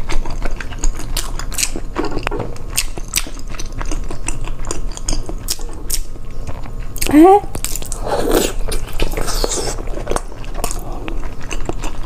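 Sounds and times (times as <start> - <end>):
wet mouth chewing clicks: 0.0 - 12.0.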